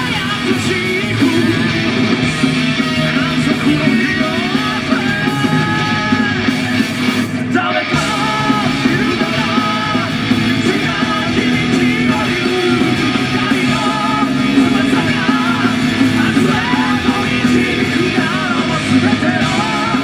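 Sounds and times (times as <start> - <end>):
bass guitar: 0.0 - 20.0
distorted electric guitars: 0.0 - 20.0
drums: 0.0 - 20.0.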